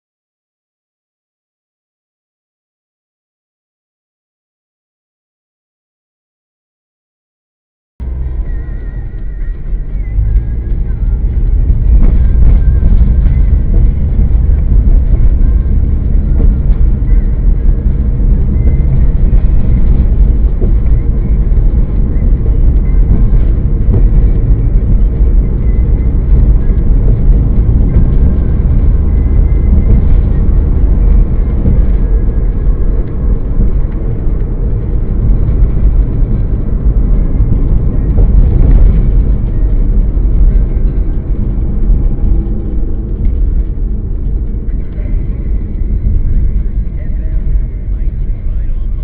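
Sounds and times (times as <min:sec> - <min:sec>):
car engine and road rumble: 0:08.0 - 0:49.0.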